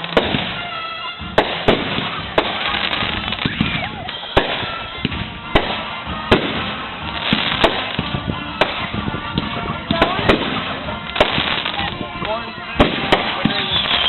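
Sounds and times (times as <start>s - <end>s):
firework crackling: 0.0s - 14.0s.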